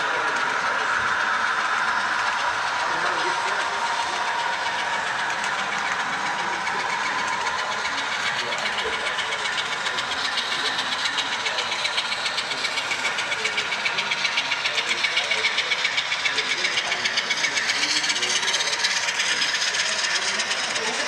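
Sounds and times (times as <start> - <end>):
model train wheels clicking on rails: 0.0 - 21.0.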